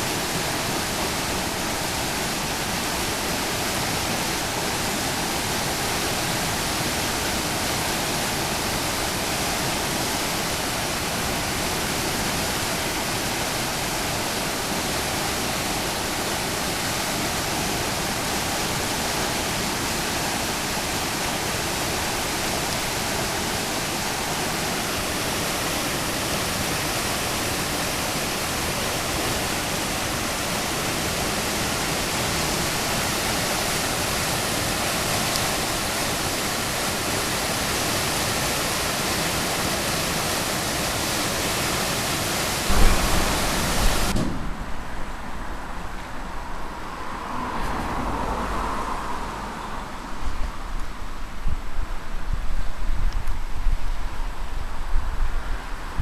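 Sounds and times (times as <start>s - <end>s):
floodwater rushing: 0.0s - 51.4s.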